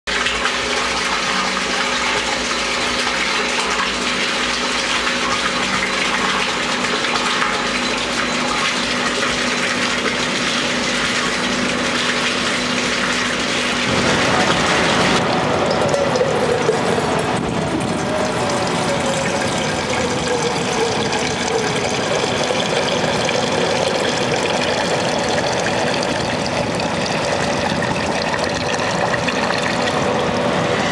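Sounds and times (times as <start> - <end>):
water pouring into tank: 0.1 - 30.9.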